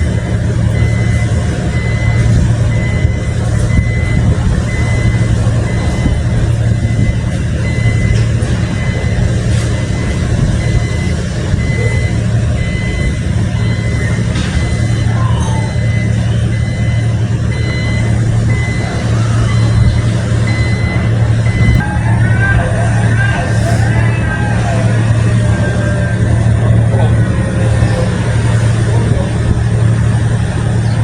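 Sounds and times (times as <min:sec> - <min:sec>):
high warning beeper: 0:00.0 - 0:29.1
diesel engine humming: 0:00.0 - 0:31.0.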